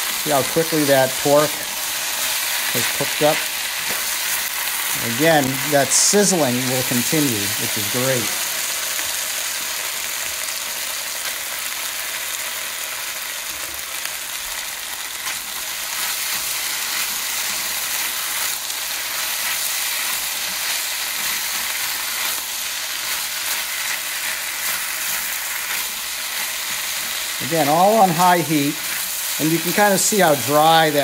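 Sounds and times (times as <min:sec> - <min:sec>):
food sizzling in a wok: 0:00.0 - 0:31.0.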